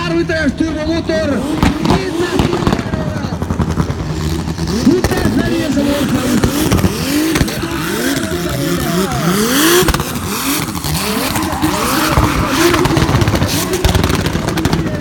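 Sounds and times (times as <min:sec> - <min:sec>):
tyres squealing on asphalt: 0:00.0 - 0:15.0
car engine revving hard: 0:01.1 - 0:15.0.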